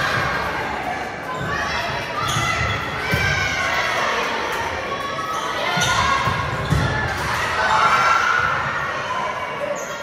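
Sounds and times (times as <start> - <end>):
spectators shouting and cheering: 0.0 - 10.0.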